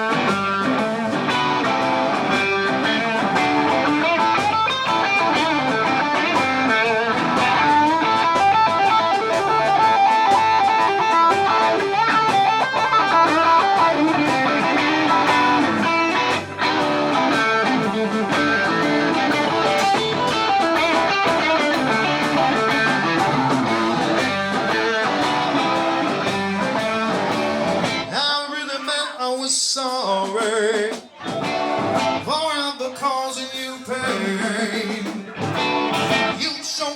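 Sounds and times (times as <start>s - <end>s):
bass guitar: 0.0s - 28.6s, 30.0s - 36.9s
electric guitar lead: 0.0s - 28.6s, 31.0s - 36.9s
drums: 0.0s - 36.9s.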